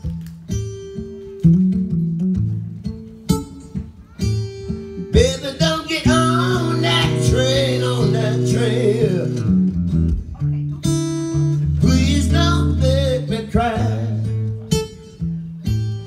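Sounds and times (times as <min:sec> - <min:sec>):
acoustic blues guitar: 0:00.0 - 0:16.0.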